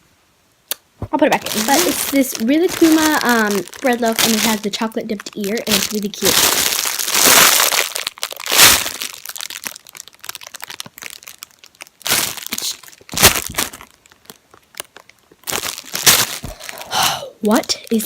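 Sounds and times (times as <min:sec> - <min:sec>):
plastic bag crinkling: 0:01.0 - 0:18.0.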